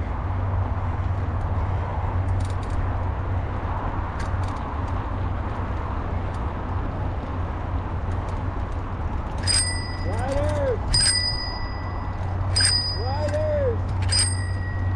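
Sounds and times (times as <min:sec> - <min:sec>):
bike rattles and clicks: 0:00.0 - 0:14.9.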